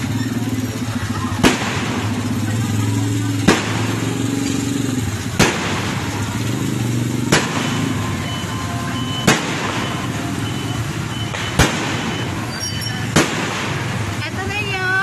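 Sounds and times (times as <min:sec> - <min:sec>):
busy street din: 0:00.0 - 0:15.0
fireworks bangs: 0:00.0 - 0:15.0.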